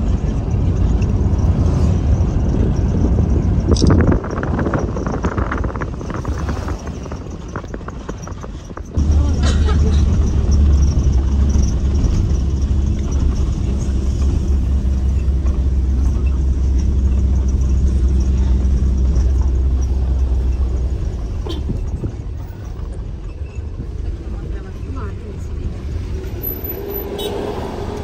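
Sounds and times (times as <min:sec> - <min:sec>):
vehicle rumbling in motion: 0:00.0 - 0:28.0.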